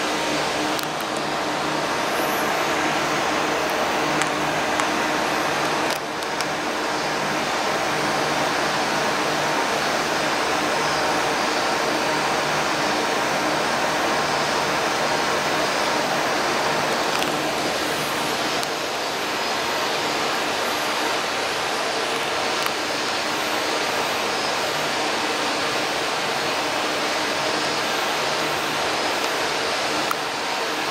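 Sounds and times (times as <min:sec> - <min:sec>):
mechanical hum: 0:00.0 - 0:30.9.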